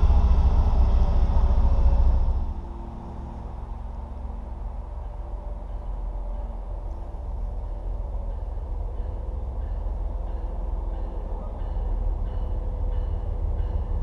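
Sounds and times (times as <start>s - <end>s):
distant diesel train rumble: 0.0s - 14.0s
faint locomotive whine: 0.0s - 14.0s.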